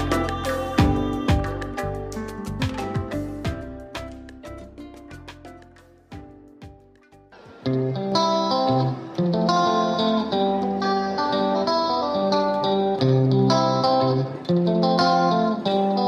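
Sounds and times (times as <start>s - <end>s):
plucked instrumental music: 0.0s - 16.0s.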